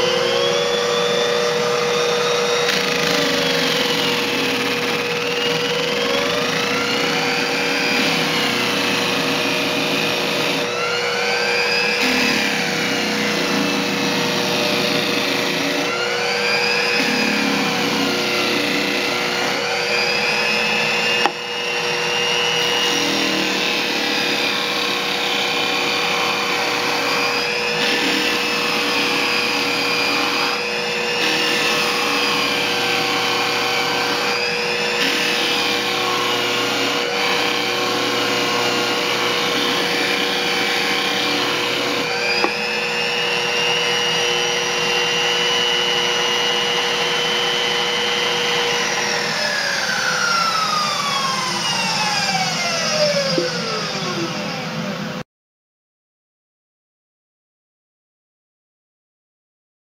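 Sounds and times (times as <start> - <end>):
disc sander whining: 0.0 - 55.2
sander spinning down: 0.0 - 55.2.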